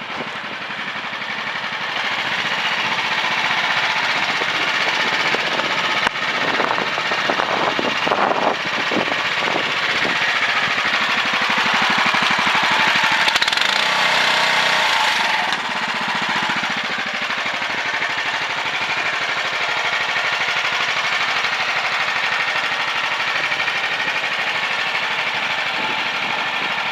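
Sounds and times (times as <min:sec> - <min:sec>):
mini excavator engine running: 0:00.0 - 0:26.9.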